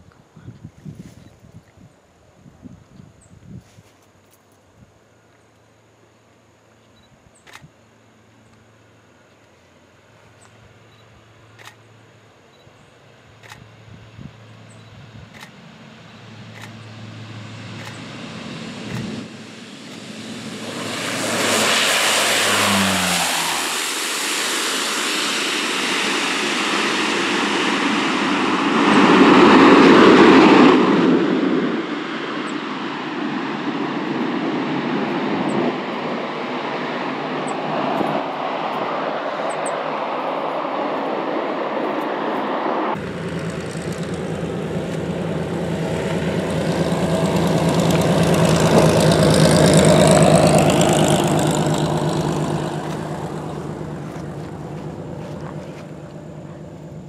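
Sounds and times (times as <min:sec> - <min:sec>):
turboprop aircraft landing: 0:04.8 - 0:57.0.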